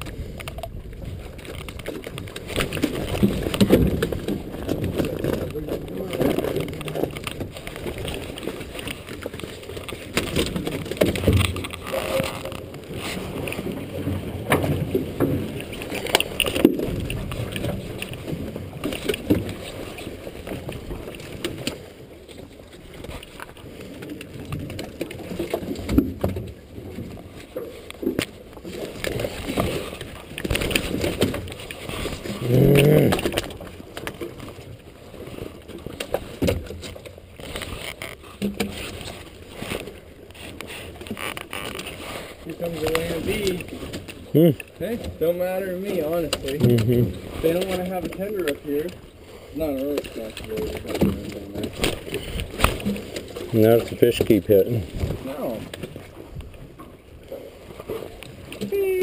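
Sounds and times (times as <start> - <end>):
water splashing: 0.0 - 59.0.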